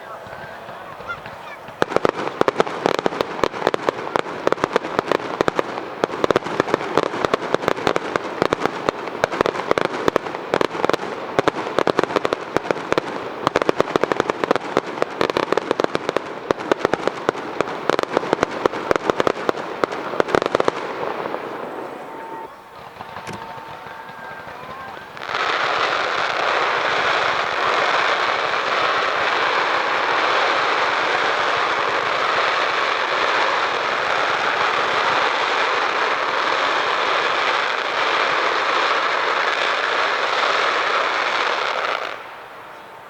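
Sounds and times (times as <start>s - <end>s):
fireworks cracking and popping: 0.0s - 43.0s.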